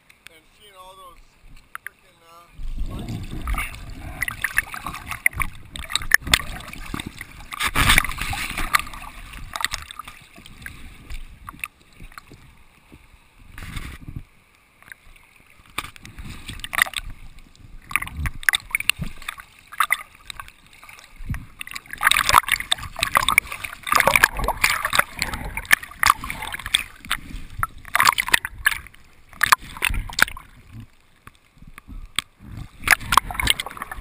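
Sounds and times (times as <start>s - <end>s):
river water sloshing and gurgling: 1.2s - 34.0s.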